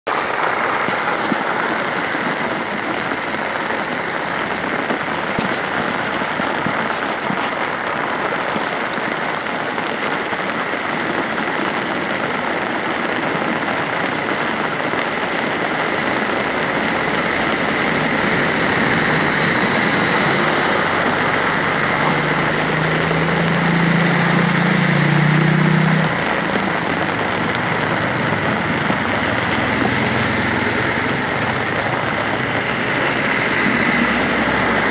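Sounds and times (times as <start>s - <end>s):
rain: 0.0s - 34.9s
floodwater rushing: 0.1s - 34.9s.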